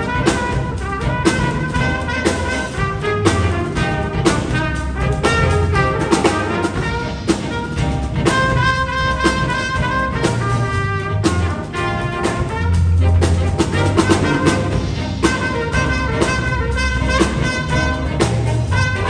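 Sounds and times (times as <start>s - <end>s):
brass chords: 0.0s - 19.0s
drum kit strokes: 0.0s - 19.0s
jazz big band playing: 0.0s - 19.0s.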